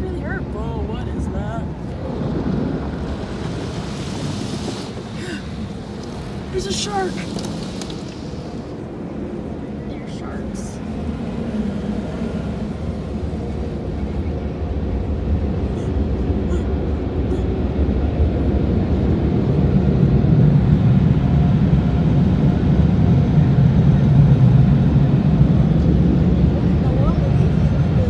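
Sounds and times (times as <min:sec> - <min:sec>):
car wash water spray and machinery: 0:00.0 - 0:28.0.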